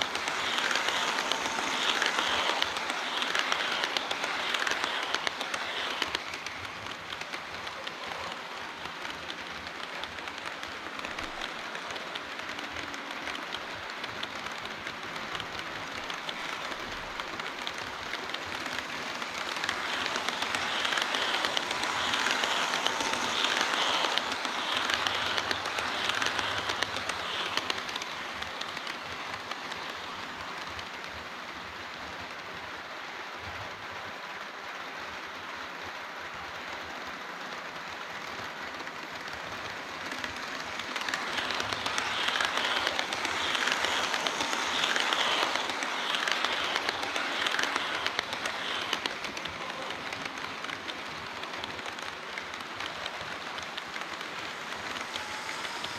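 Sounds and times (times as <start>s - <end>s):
model train wheels rattling: 0.0s - 31.8s, 36.6s - 55.9s.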